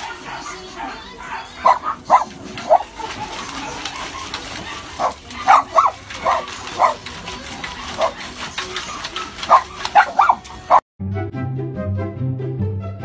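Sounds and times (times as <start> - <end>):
dog barking: 0.0 - 10.8
water splashing in a metal bowl: 0.0 - 10.8.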